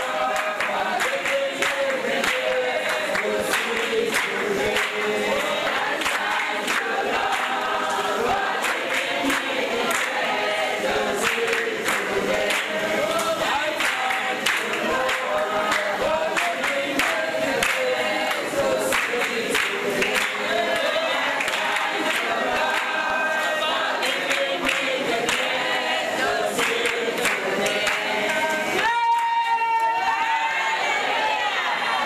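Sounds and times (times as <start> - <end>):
hand-clapping: 0.0 - 30.3
crowd singing in chorus: 0.0 - 32.0.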